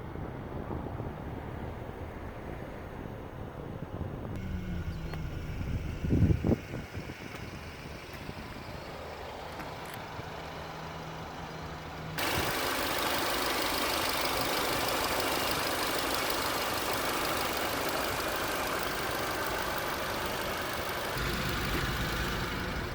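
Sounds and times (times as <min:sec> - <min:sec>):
car engine idling: 0:04.3 - 0:22.9.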